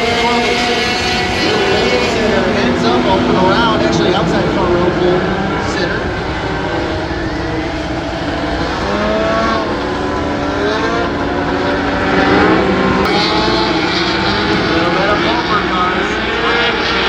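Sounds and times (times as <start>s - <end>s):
race truck engines revving: 0.0s - 17.0s.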